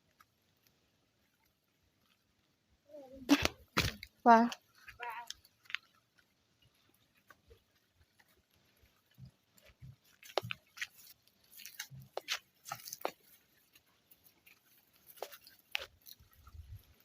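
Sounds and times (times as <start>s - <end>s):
footsteps on dry grass and stones: 3.2s - 17.0s.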